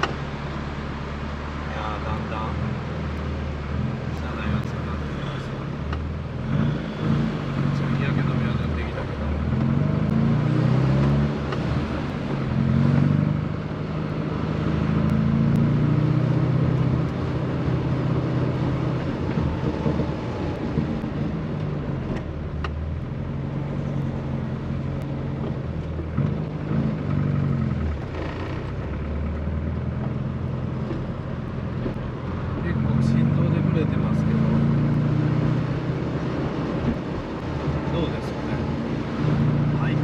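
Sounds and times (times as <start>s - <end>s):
car engine running: 0.0s - 40.0s
road and tyre noise: 0.0s - 40.0s.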